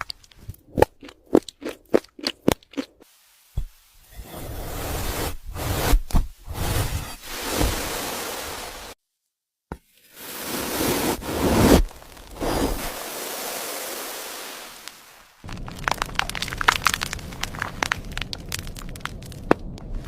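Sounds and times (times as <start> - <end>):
hissing and crackling noise: 2.5 - 9.0, 10.3 - 20.0.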